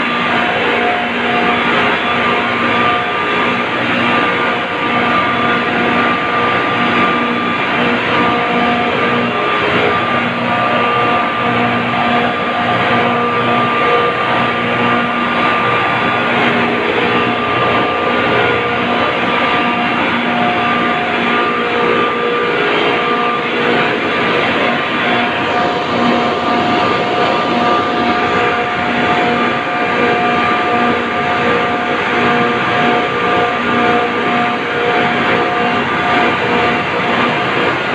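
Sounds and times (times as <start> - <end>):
constant hum tones: 0.0 - 37.9
refrigeration compressors running: 0.0 - 37.9.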